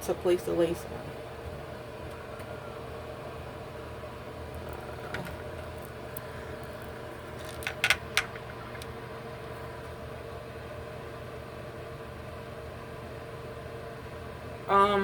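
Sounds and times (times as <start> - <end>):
low electrical room hum: 0.0 - 15.0.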